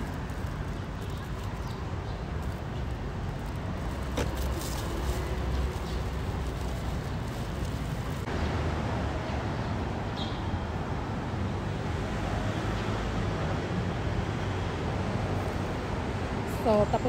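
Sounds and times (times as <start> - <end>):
passing vehicles rumble: 0.0 - 17.0.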